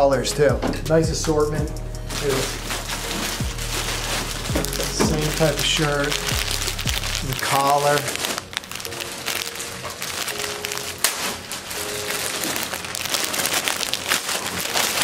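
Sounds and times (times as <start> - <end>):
plastic bags crinkling: 2.0 - 15.0.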